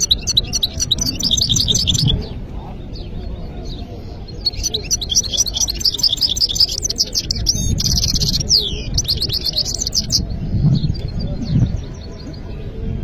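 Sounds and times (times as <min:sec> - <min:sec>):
goldfinch twittering song: 0:00.0 - 0:12.4.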